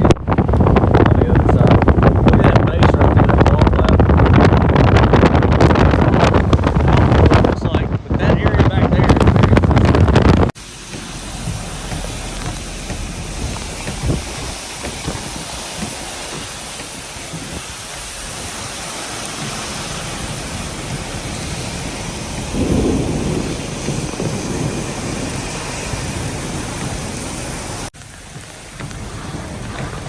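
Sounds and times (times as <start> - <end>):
heavy rain on vehicle: 0.0 - 30.0
strong wind: 0.0 - 30.0.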